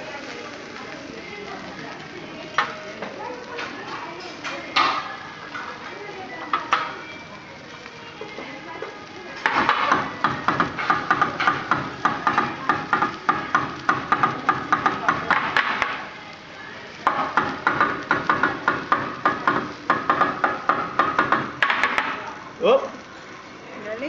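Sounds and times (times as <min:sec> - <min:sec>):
seasoning shakers clattering: 0:00.0 - 0:24.0.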